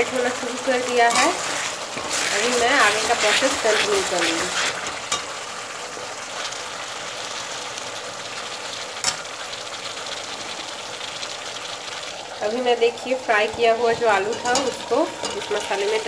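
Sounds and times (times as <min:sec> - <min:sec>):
paste sizzling in oil in a pan: 0:00.0 - 0:16.0.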